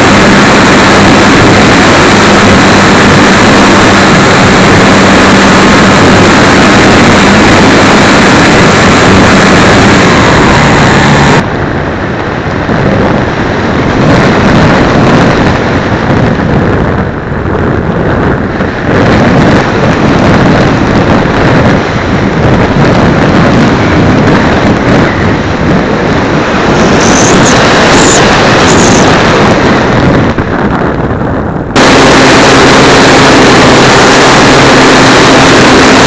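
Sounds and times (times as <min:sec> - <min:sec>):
steady hum: 0:00.0 - 0:36.0
wind buffeting microphone: 0:00.0 - 0:36.0.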